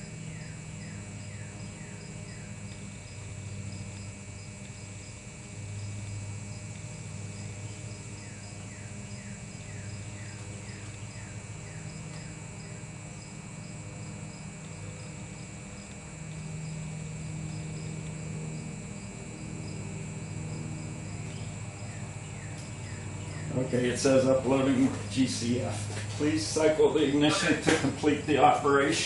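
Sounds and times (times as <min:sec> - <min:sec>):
crickets chirping: 0:00.0 - 0:29.0
low hum: 0:00.0 - 0:29.0.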